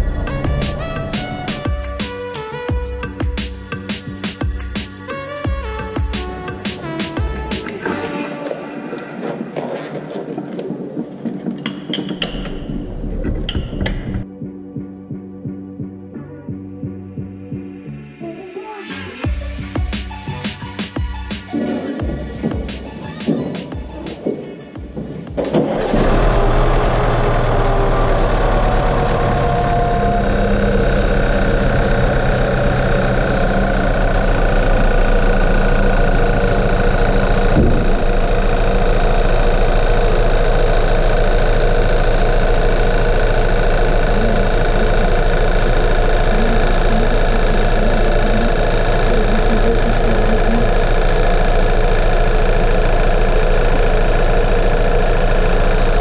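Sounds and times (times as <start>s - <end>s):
car engine starting and idling: 0.0s - 14.3s, 19.2s - 56.0s.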